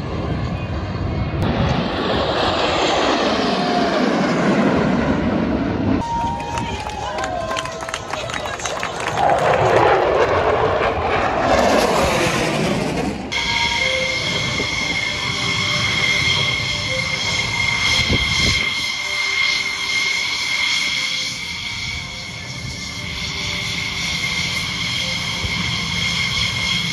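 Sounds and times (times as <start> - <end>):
high steady jet whine: 0.0 - 26.9
jets passing low overhead: 0.0 - 26.9.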